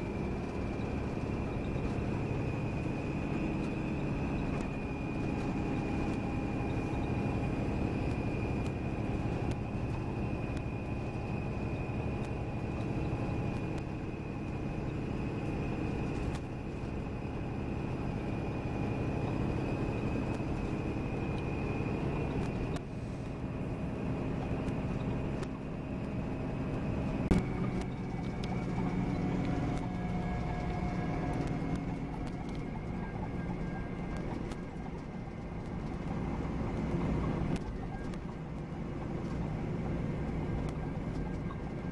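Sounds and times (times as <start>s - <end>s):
coach engine and road drone: 0.0s - 41.9s.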